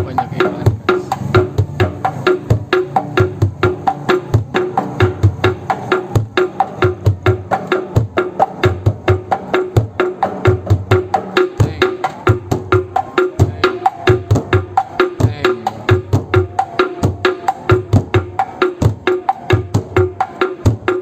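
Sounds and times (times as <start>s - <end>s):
large drum beaten fast: 0.0s - 21.0s.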